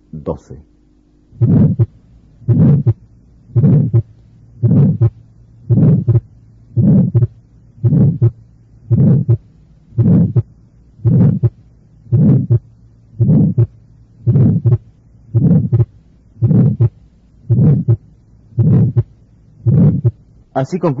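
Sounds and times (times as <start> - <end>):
heartbeat with murmur: 1.4 - 20.2.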